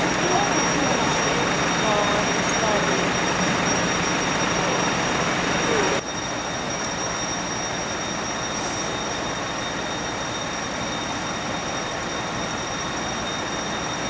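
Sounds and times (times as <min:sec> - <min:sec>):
faint high-pitched whines: 0:00.0 - 0:14.0.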